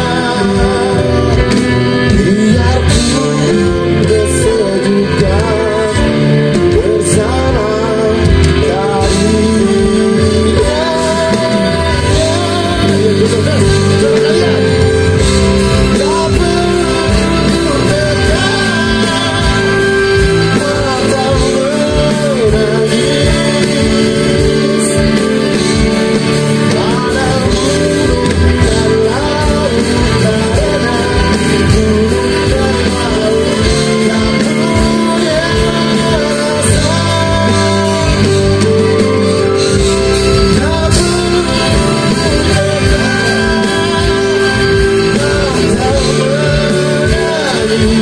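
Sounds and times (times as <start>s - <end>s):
electric guitar and band: 0.0s - 48.0s
man singing: 0.0s - 48.0s.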